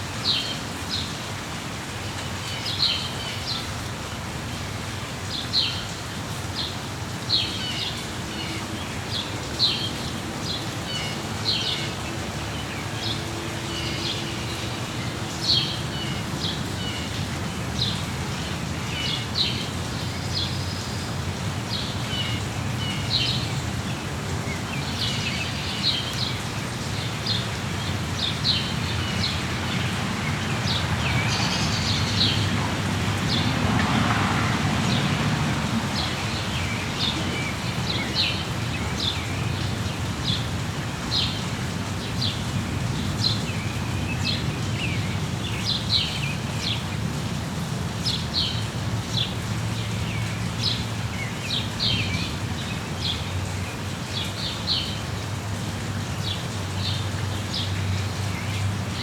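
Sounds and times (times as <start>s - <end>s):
steady rain: 0.0s - 59.0s
small songbirds chirping: 0.1s - 1.4s, 2.1s - 33.8s, 34.8s - 59.0s.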